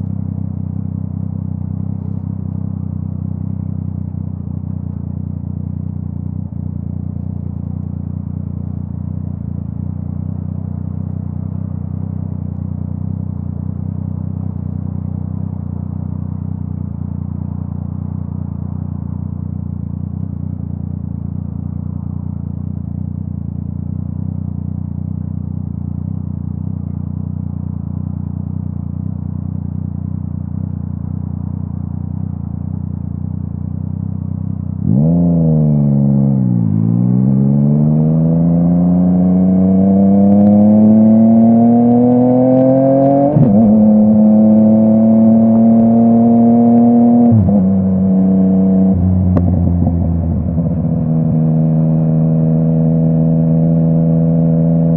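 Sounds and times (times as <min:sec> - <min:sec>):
motorcycle engine idling and accelerating: 0:00.0 - 0:54.9.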